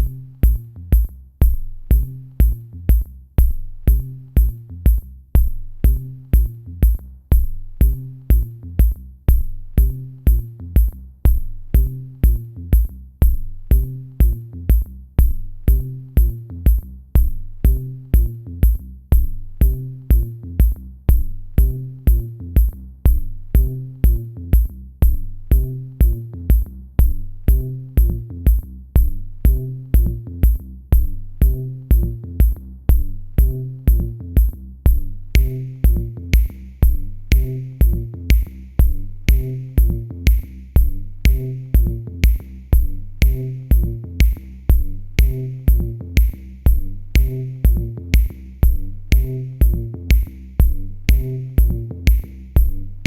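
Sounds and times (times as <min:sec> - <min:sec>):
electronic music with drum-machine beat: 0:00.0 - 0:53.0.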